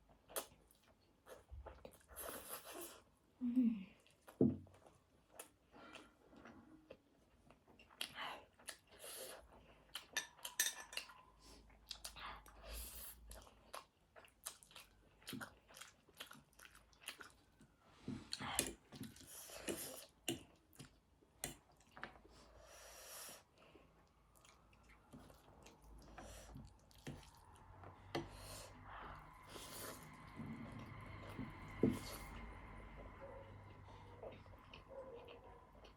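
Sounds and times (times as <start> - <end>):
person chewing noodles: 4.1 - 35.9.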